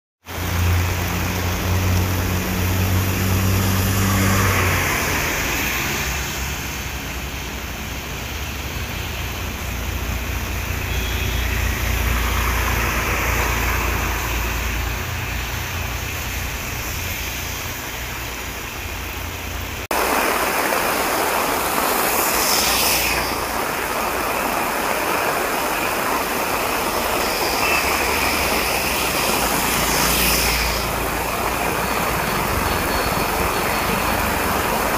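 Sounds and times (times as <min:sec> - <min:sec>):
heavy rain pouring: 0:00.2 - 0:34.9
truck rumbling: 0:00.3 - 0:34.9
tyres hissing through water: 0:00.3 - 0:34.9.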